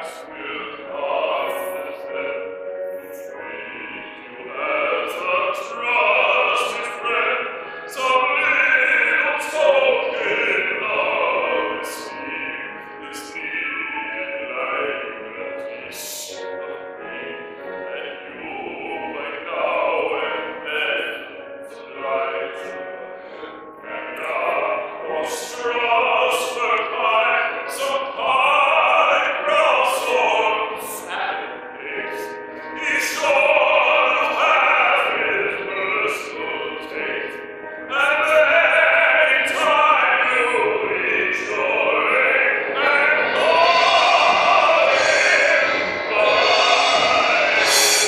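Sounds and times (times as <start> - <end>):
instrumental accompaniment: 0.0 - 48.0
man singing: 0.0 - 48.0.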